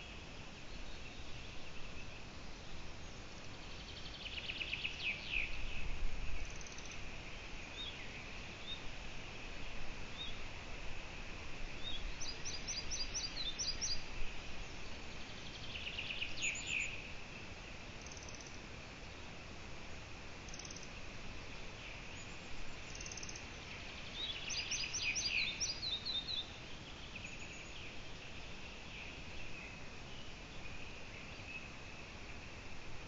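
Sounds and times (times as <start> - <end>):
songbirds singing: 0.0 - 33.0
steady high hiss: 0.0 - 33.0.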